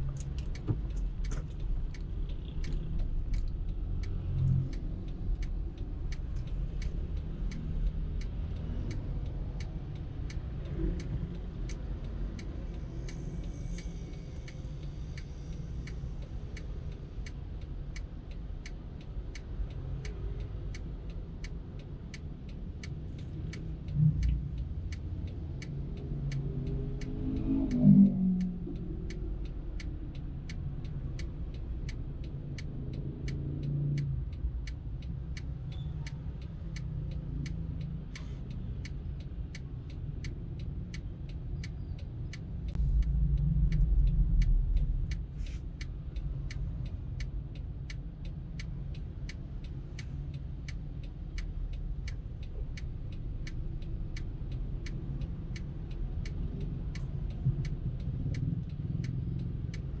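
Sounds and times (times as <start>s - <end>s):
car engine and road rumble: 0.0s - 60.0s
indicator ticking: 0.1s - 60.0s.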